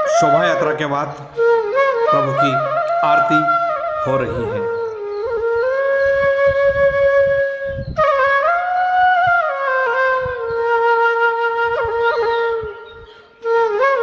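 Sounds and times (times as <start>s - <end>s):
wind instrument slow melody: 0.0s - 14.0s.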